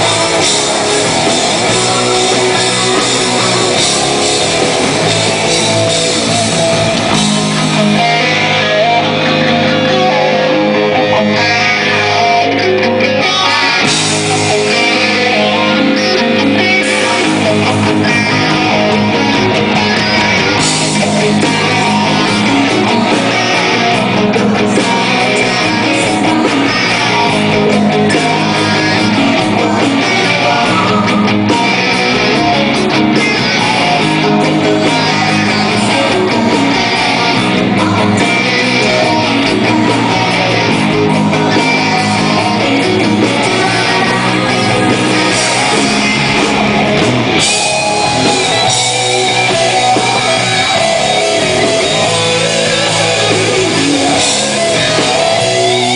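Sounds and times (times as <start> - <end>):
hard rock band playing: 0.0 - 55.9.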